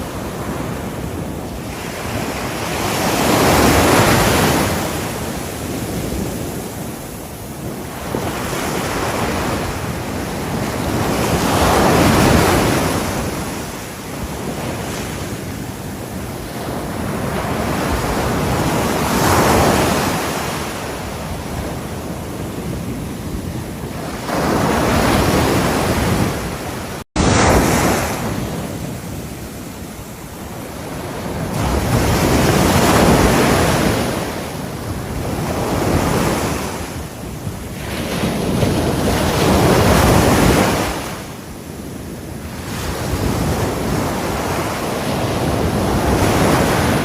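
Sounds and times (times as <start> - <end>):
ocean waves breaking on shore: 0.0 - 47.0.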